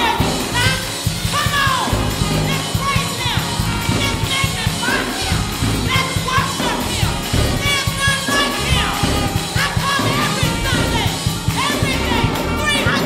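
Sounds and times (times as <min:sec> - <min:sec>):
band with saxophone: 0:00.0 - 0:13.0
choir and congregation clapping: 0:00.0 - 0:13.0
woman singing lead: 0:00.0 - 0:13.0.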